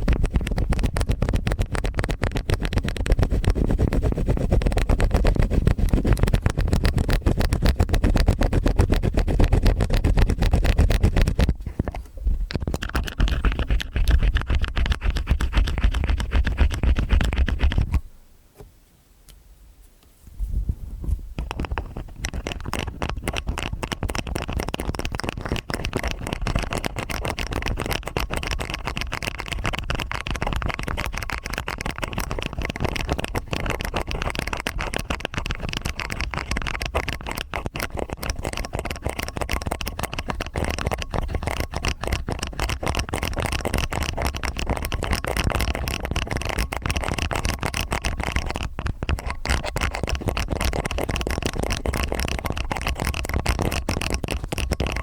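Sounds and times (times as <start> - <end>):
metal ear picks scratching: 0.0 - 18.0, 21.4 - 55.0.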